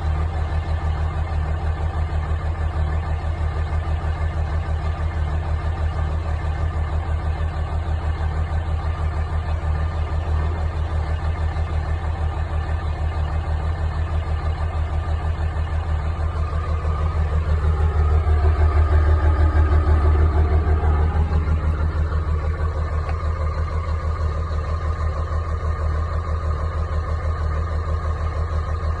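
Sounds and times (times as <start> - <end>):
diesel engine idling and revving: 0.0 - 29.0.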